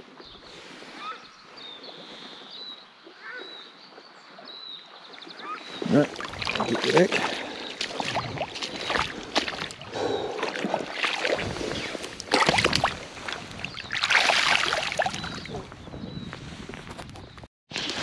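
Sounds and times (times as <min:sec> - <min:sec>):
river water splashing: 0:00.5 - 0:15.6.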